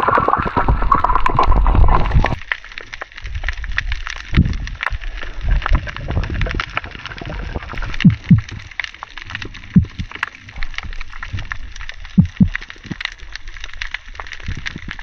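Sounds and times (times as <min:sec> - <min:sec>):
small crackling clicks: 0:00.0 - 0:15.0
water sloshing and gurgling: 0:00.0 - 0:15.0.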